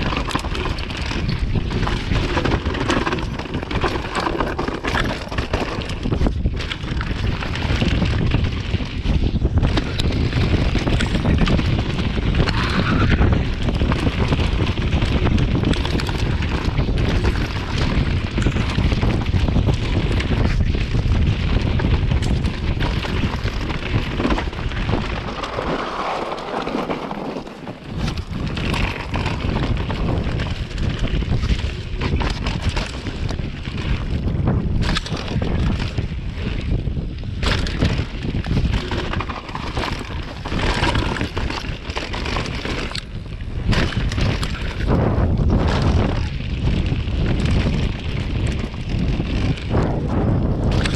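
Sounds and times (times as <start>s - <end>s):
bike knocks and rattles: 0.0s - 50.9s
tyre noise on dirt: 0.0s - 50.9s
wind buffeting microphone: 0.0s - 50.9s.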